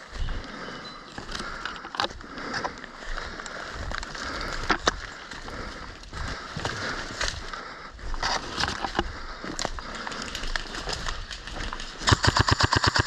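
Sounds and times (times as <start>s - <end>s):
rustling movement: 0.0s - 12.1s.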